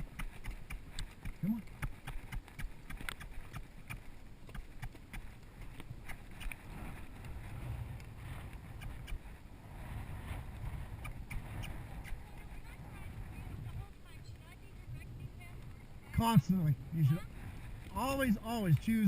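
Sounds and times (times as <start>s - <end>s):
horse hooves on rocky ground: 0.0s - 19.0s
wind rumble on microphone: 0.0s - 19.0s.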